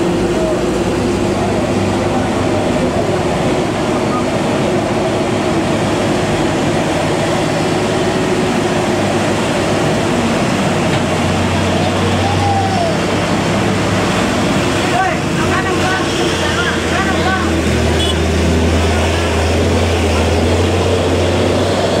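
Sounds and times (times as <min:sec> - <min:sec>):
road noise: 0:00.0 - 0:22.0
truck diesel engine climbing: 0:00.0 - 0:22.0.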